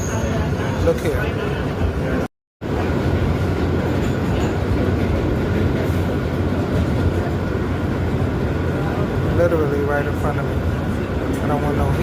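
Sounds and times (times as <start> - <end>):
subway car rumbling: 0.0 - 12.0.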